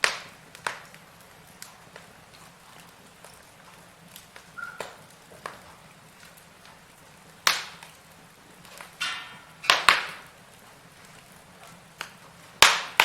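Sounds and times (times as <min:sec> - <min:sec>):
fire hissing: 0:00.0 - 0:13.0
firewood crackling and popping: 0:00.0 - 0:13.0.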